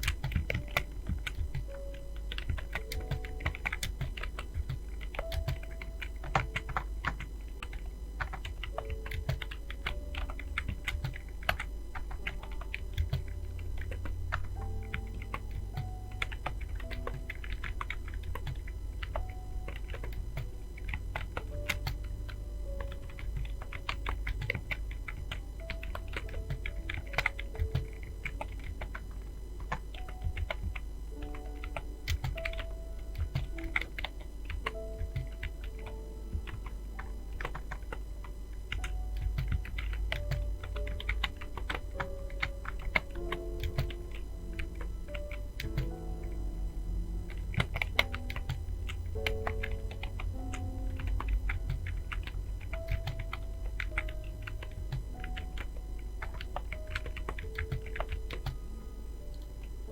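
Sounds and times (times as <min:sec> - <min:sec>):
fast typing on computer keyboard: 0:00.0 - 0:46.5, 0:47.2 - 0:58.6
quiet background music: 0:00.0 - 0:59.9.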